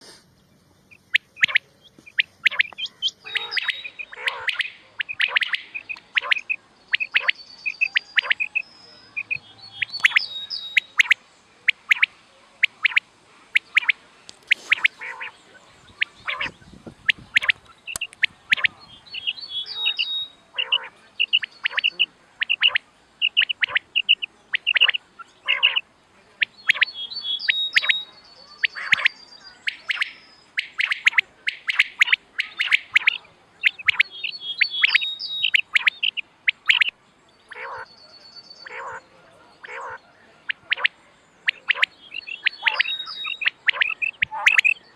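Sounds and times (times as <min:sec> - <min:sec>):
quail calls: 0:00.9 - 0:25.8, 0:26.4 - 0:36.9, 0:37.5 - 0:37.9, 0:38.6 - 0:39.0, 0:39.6 - 0:44.9.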